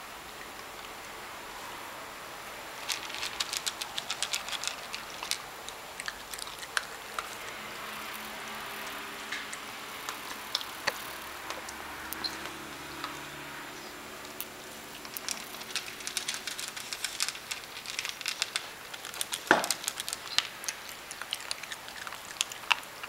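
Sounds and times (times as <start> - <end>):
dog crunching dry kibble: 2.6 - 23.0.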